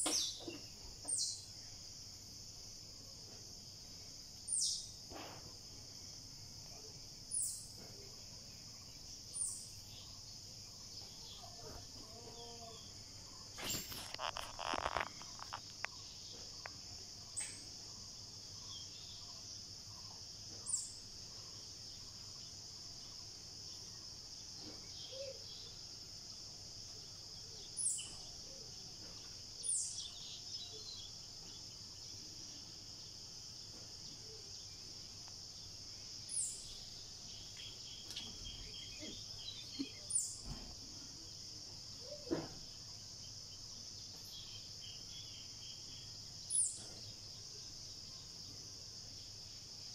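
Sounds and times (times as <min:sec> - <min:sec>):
insects chorus: 0:00.0 - 0:49.9.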